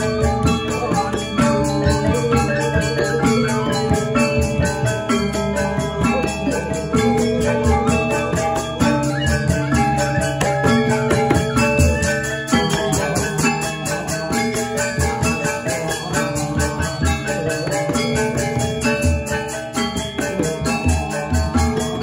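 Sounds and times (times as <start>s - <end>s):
metallophones ringing: 0.0s - 22.0s.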